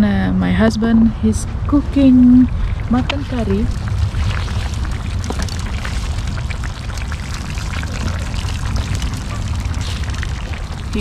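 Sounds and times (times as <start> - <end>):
low rumble: 0.0 - 11.0
curry bubbling: 1.3 - 11.0
campfire crackling: 1.6 - 11.0.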